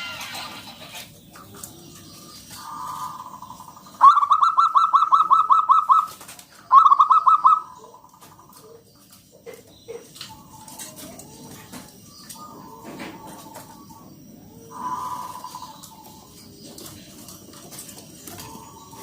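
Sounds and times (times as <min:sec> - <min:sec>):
dove cooing: 0:01.6 - 0:08.8, 0:09.4 - 0:19.0.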